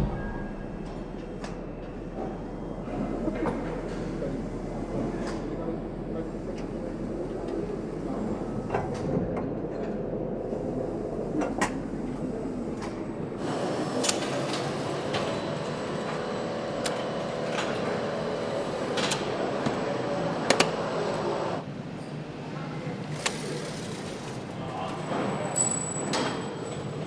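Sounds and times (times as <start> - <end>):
machinery hum: 0.0 - 27.0.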